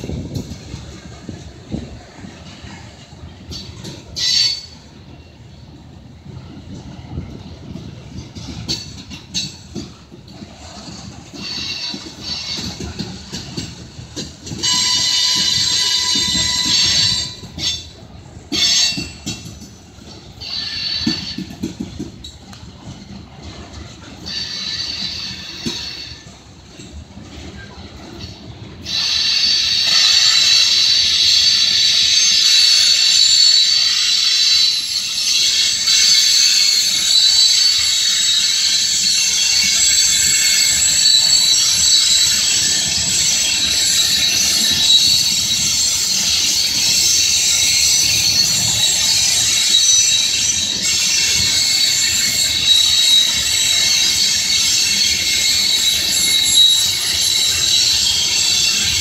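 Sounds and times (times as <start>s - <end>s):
train wheels squealing: 0.0s - 59.0s
wheels rolling on rails: 6.2s - 59.0s.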